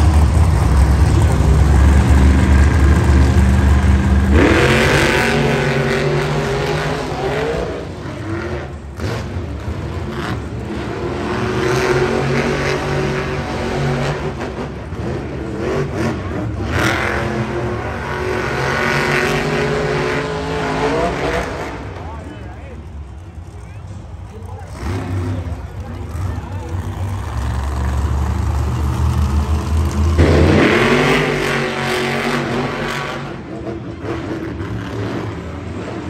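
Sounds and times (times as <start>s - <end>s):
truck engine revving hard: 0.0s - 22.0s, 24.6s - 36.0s.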